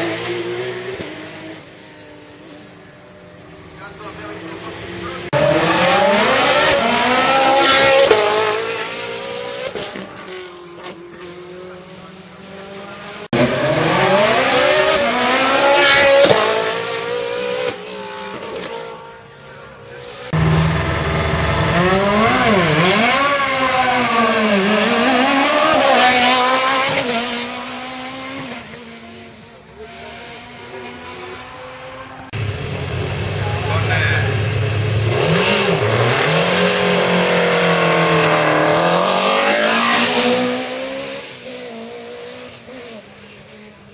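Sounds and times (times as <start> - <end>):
race car engine revving: 0.0 - 43.9.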